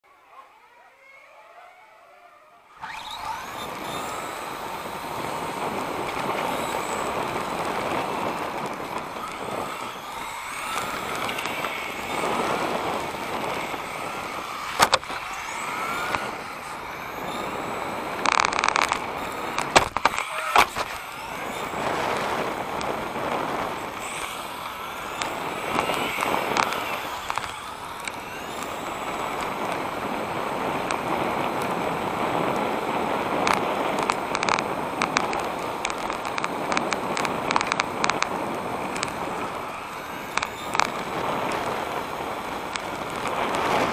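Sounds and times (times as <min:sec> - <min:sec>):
electric motor whining: 0:02.6 - 0:43.9
drivetrain and tyre noise: 0:02.7 - 0:43.9.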